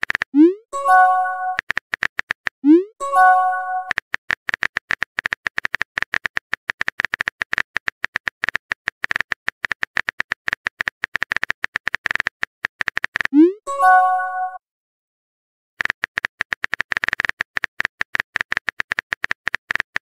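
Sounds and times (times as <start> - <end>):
phone keyboard typing clicks: 0.9 - 13.4, 15.8 - 20.0.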